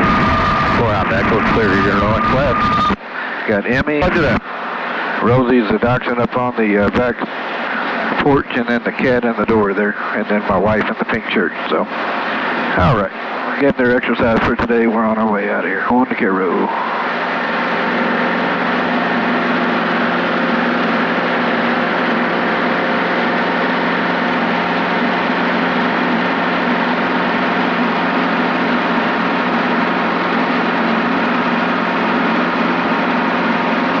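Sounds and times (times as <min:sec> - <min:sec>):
helicopter drone: 0:00.0 - 0:34.0.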